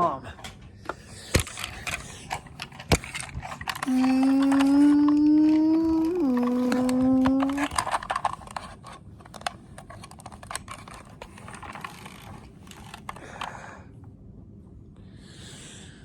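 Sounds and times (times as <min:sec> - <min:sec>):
plastic toys clicking and tapping: 0:00.4 - 0:13.6.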